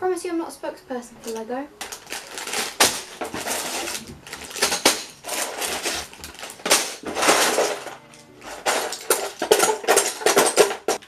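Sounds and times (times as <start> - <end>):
plastic bags crinkling: 1.3 - 11.0
plastic bricks clattering: 1.8 - 11.0.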